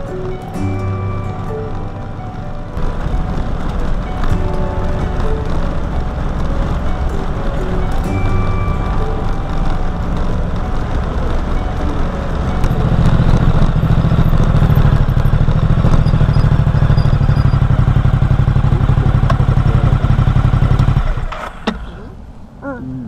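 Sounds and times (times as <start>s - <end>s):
car engine and road noise: 0.0s - 22.9s.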